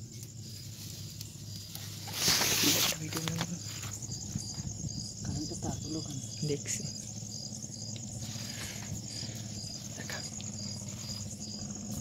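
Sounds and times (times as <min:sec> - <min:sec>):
cricket chirping: 0:00.0 - 0:12.0
insects trilling: 0:00.0 - 0:12.0.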